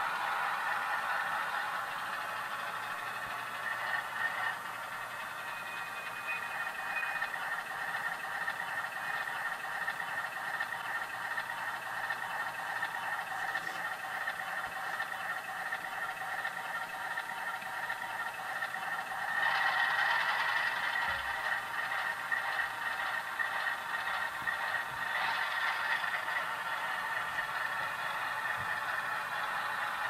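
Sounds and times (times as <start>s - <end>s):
model locomotive diesel engine sound: 0.0s - 30.0s.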